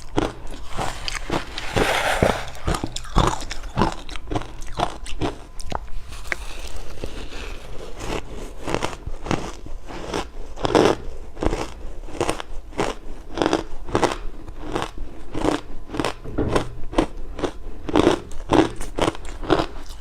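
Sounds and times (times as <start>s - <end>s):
ice being chewed: 0.0s - 16.2s, 17.0s - 20.0s.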